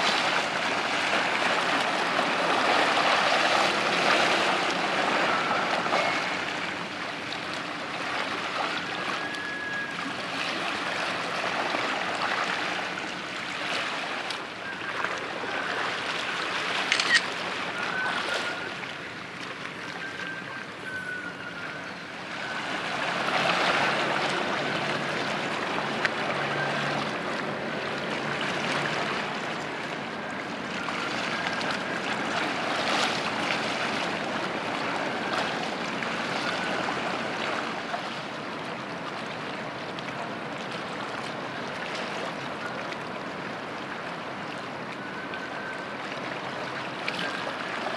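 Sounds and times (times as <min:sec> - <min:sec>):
water lapping and sloshing: 0:00.0 - 0:47.9.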